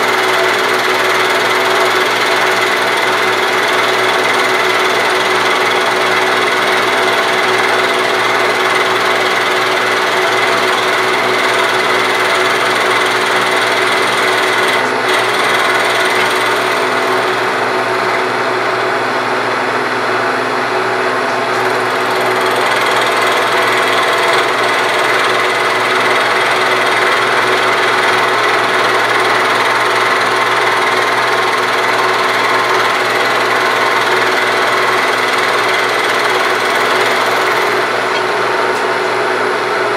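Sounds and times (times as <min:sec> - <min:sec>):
power tool hammering on metal: 0:00.0 - 0:18.4, 0:21.4 - 0:39.0.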